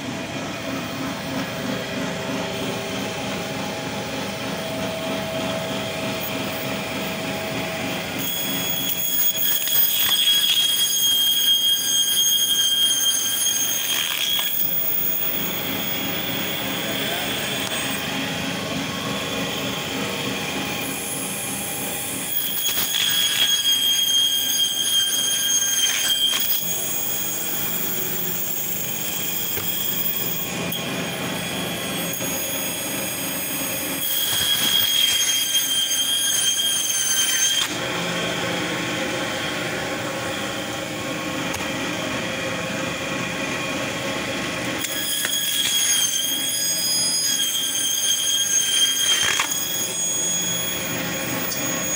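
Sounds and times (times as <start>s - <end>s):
band saw whining: 0.0s - 51.9s.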